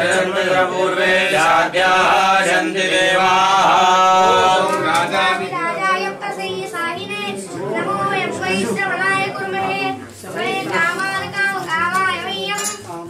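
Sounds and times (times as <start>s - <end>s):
voices chanting mantras: 0.0s - 13.0s.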